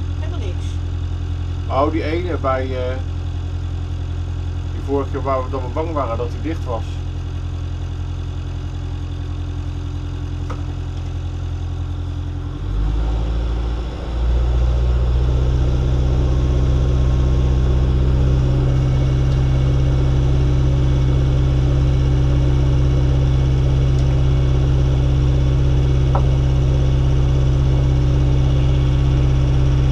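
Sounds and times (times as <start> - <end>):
motor boat engine running: 0.0 - 29.9.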